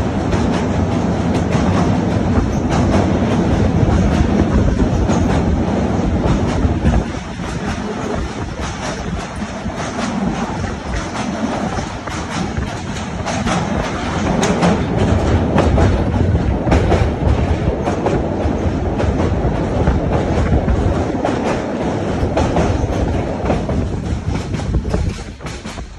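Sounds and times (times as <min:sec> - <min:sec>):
rail joint clicks and clatters: 0:00.0 - 0:25.9
train wheels rumbling on rails: 0:00.0 - 0:25.9.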